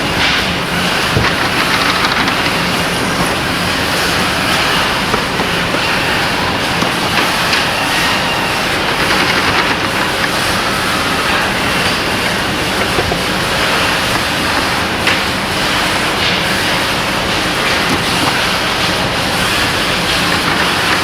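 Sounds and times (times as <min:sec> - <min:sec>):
machinery rattling and humming: 0:00.0 - 0:21.0.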